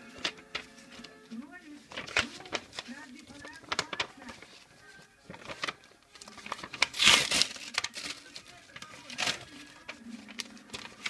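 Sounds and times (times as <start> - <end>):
paper envelope tearing and rustling: 0.0 - 11.0.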